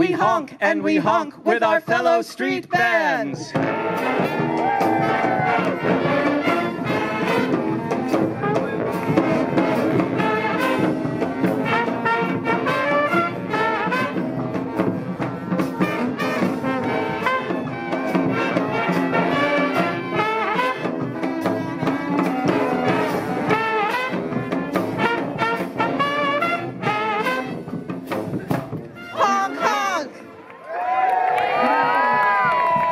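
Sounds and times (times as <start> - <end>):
brass band playing: 3.3 - 30.4.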